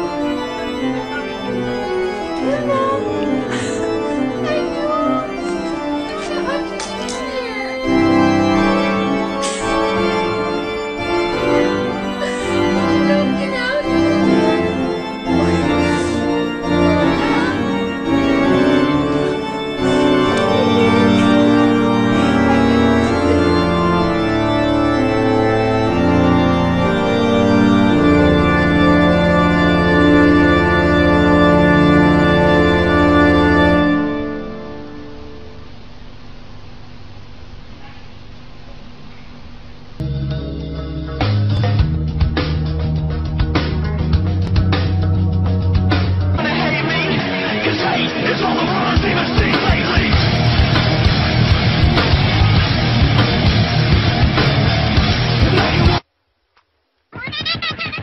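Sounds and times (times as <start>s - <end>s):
background music of held chords: 0.0s - 35.8s, 40.0s - 56.0s.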